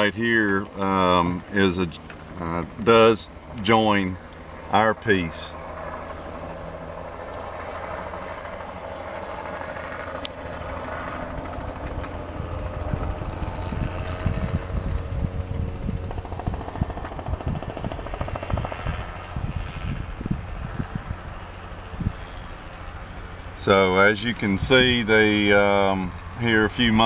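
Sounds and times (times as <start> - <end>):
helicopter rotor and engine: 0.0 - 27.0.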